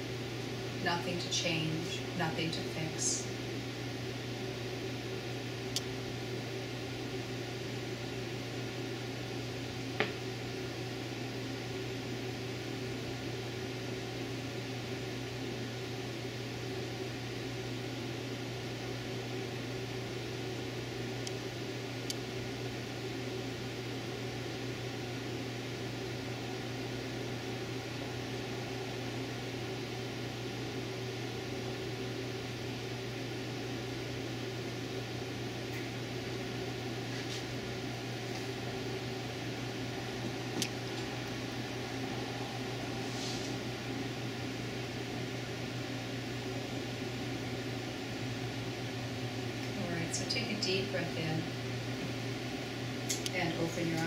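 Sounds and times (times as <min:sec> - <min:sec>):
low hum with hiss: 0:00.0 - 0:54.0.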